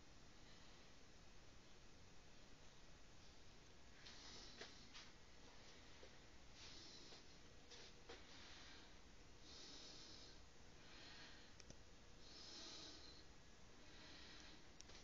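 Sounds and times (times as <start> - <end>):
soft breaths: 0.1 - 1.8, 3.1 - 15.0.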